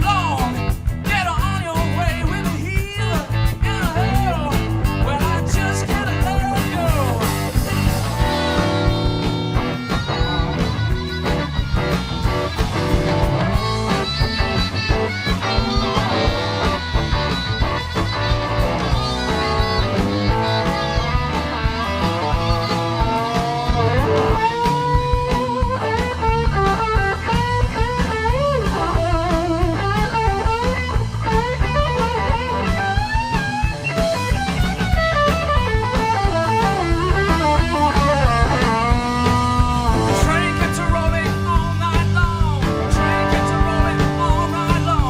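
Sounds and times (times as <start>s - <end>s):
electric guitar lead: 0.0s - 45.0s
rock band playing: 0.0s - 45.0s.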